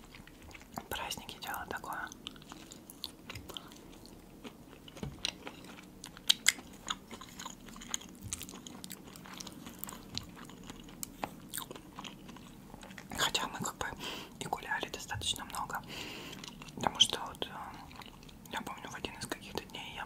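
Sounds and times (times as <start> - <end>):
chewing bread: 0.0 - 14.6, 15.2 - 19.7.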